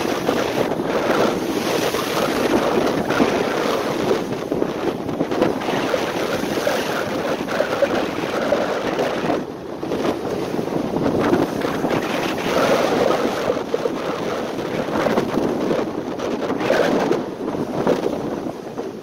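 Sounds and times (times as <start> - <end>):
sea waves breaking against a wall: 0.0 - 19.0
wind blowing on microphone: 0.0 - 19.0.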